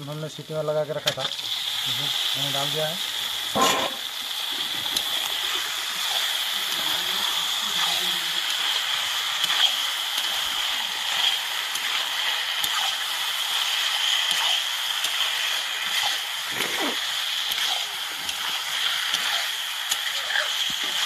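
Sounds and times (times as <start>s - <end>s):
curry sizzling in a pan: 0.0s - 21.0s.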